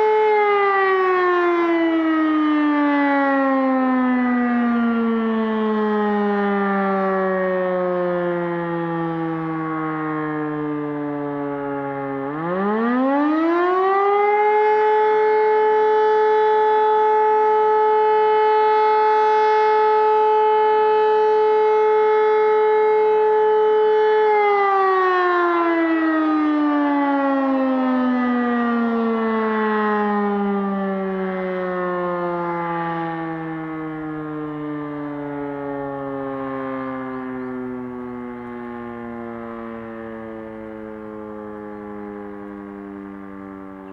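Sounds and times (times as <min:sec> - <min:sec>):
motor siren wailing: 0:00.0 - 0:43.9.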